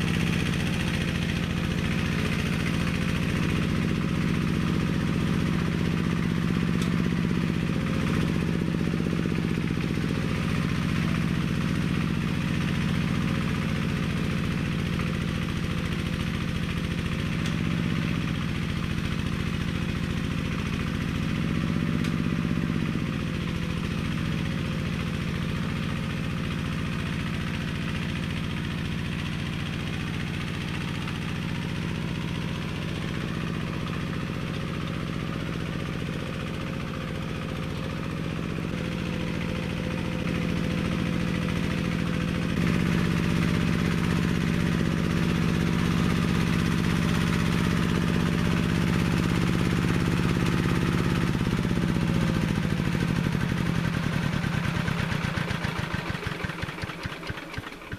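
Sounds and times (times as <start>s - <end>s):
small tractor engine running: 0.0s - 57.9s.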